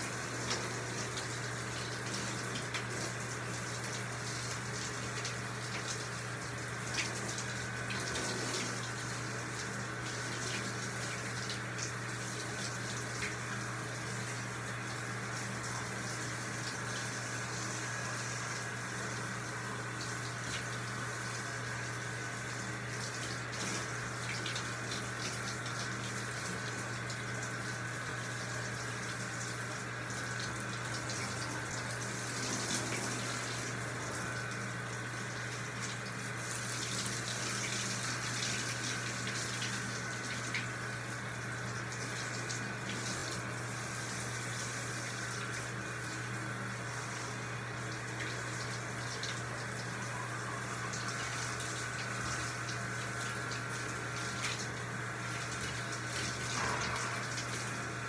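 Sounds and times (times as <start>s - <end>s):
shower water spraying: 0.0s - 58.0s.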